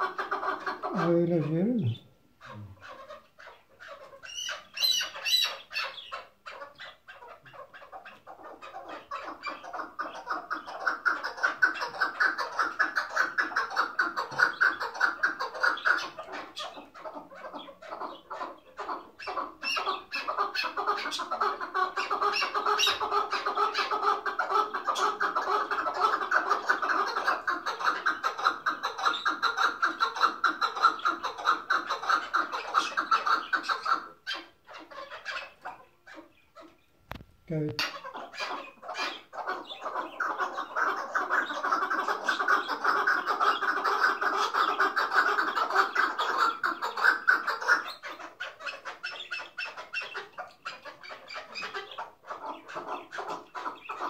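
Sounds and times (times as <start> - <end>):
partridge clucking calls: 0.0 - 54.0.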